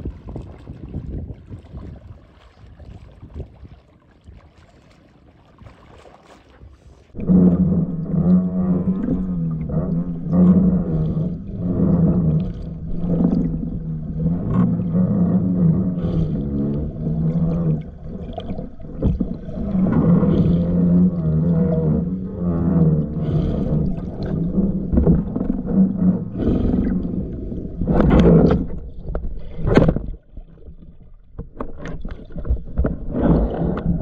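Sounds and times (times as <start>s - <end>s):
faint wind and water: 0.0s - 34.0s
droning underwater hum: 6.7s - 34.0s.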